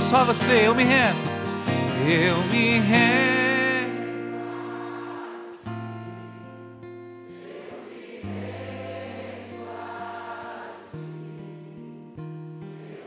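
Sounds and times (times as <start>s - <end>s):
soft worship music with choir: 1.2s - 5.8s, 7.1s - 13.0s.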